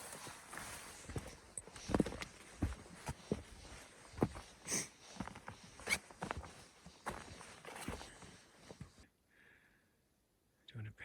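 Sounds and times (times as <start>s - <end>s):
boot footsteps on snowy trail: 0.0s - 9.0s.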